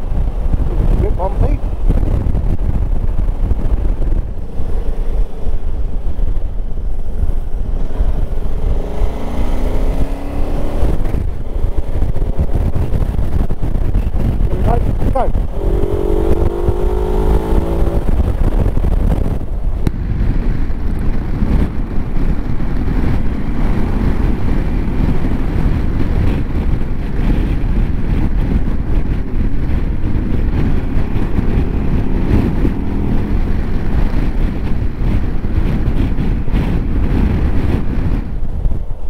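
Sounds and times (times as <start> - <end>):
motorcycle engine running: 0.0 - 39.0
wind buffeting microphone: 0.0 - 39.0.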